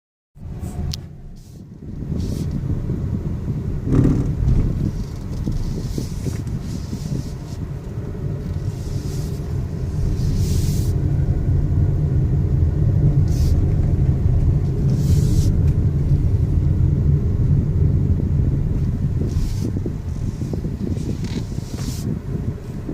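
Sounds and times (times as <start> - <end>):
car driving with low rumble: 0.4 - 22.9.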